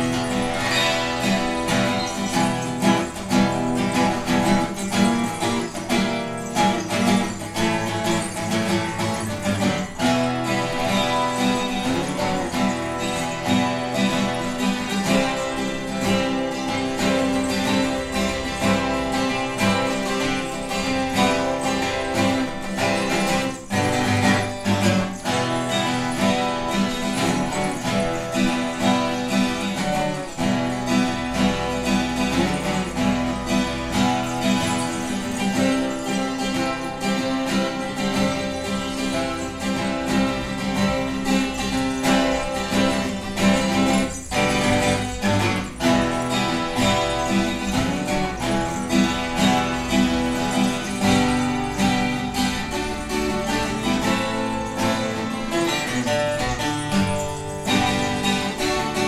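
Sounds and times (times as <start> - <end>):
twelve-string acoustic guitar: 0.0 - 59.0.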